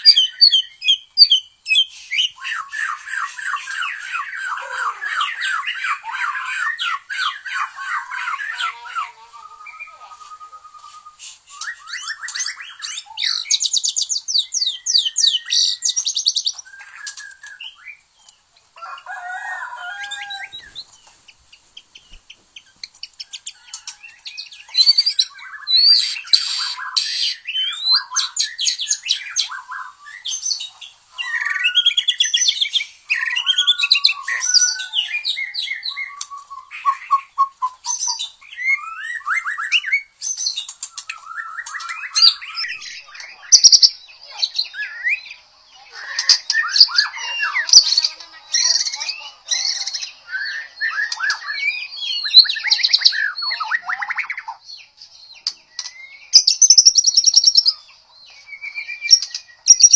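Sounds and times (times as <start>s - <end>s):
songbird singing varied song: 0.0s - 59.9s.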